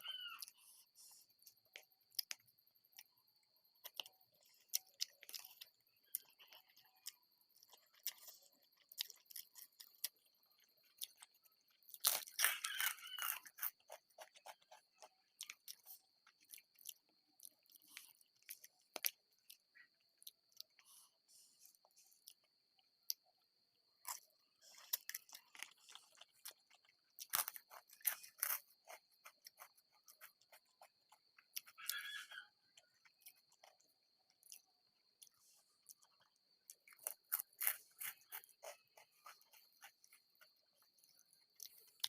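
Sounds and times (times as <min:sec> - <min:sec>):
food crunching: 0:00.0 - 0:42.0.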